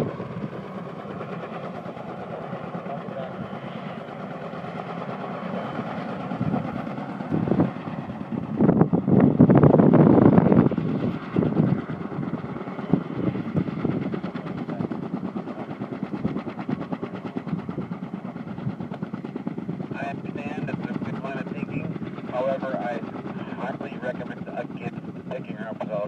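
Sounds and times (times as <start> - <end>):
helicopter rotors beating: 0.0 - 26.0.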